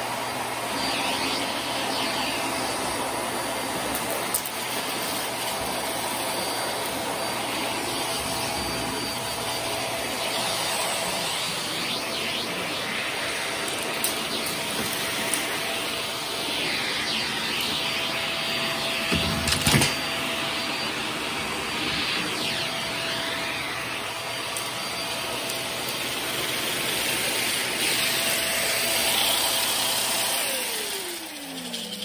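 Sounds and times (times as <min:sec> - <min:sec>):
motor winding down whine: 0:00.0 - 0:32.0
vacuum cleaner running: 0:00.0 - 0:32.0.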